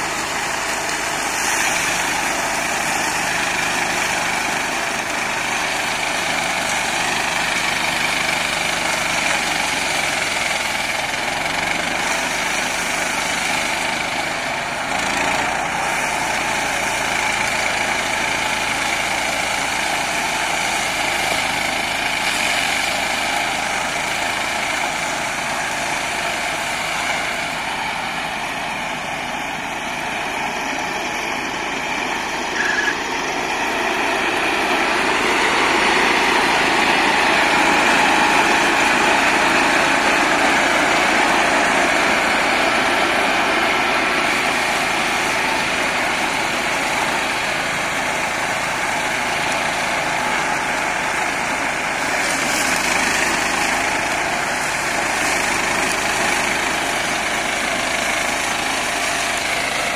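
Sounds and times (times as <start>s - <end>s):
flail mulcher chopping grass: 0.0s - 59.9s
small tractor engine: 0.0s - 59.9s.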